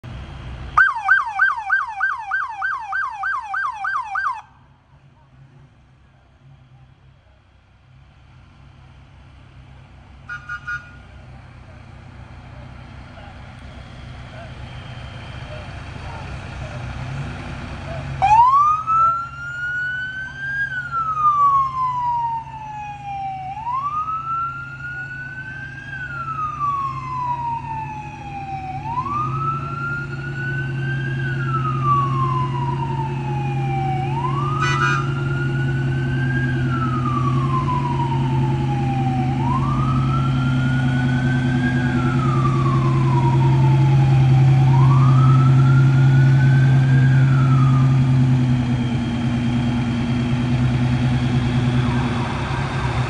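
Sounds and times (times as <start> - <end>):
heavy vehicle engine hum: 0.0 - 53.0
fire truck siren wailing: 0.7 - 4.7, 12.4 - 53.0.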